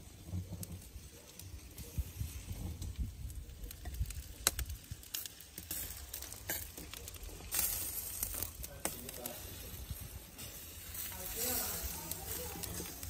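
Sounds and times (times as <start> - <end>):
fat popping and crackling on coals: 0.0 - 13.0.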